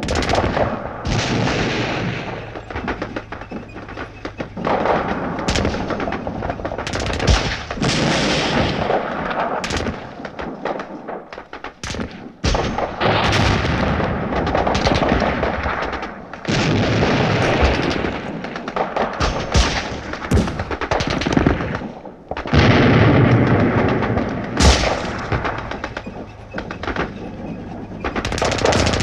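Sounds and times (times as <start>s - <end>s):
heavy cannon booms: 0.0s - 29.0s
machine-gun fire: 0.0s - 29.0s
rumbling noise: 0.0s - 29.0s.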